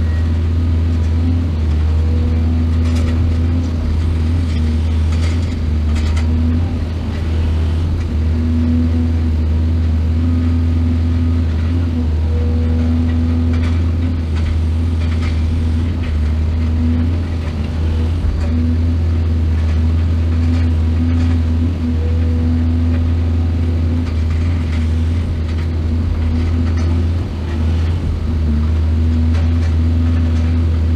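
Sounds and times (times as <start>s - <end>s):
heavy diesel engine running: 0.0s - 30.9s.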